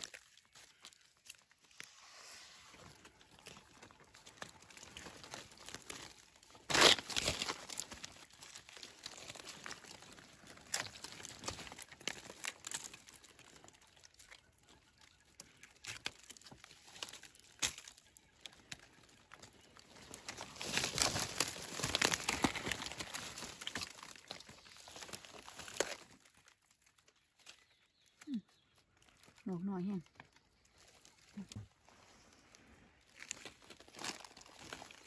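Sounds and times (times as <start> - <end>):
dry forest litter rustling: 0.0 - 35.0
loud crunch: 2.7 - 28.3, 32.4 - 35.0.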